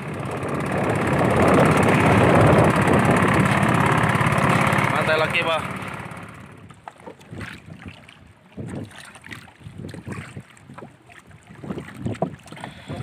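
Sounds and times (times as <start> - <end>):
wind on microphone: 0.0 - 4.9, 6.6 - 13.0
water splashing against canoe: 0.3 - 13.0.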